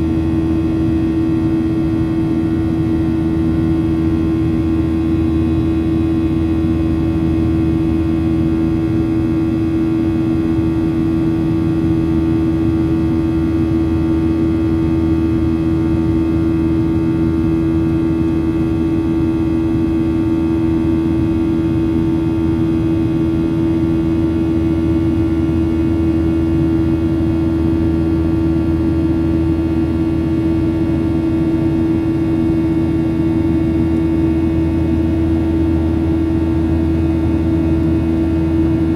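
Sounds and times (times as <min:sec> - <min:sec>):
airliner engine drone: 0:00.0 - 0:38.9.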